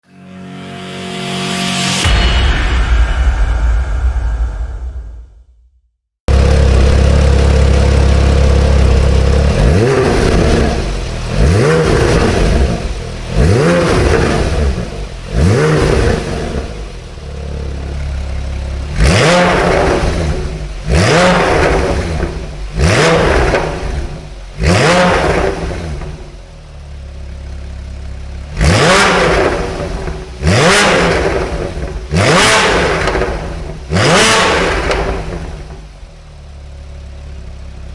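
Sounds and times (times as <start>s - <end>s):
sports car engine revving: 6.3s - 37.8s.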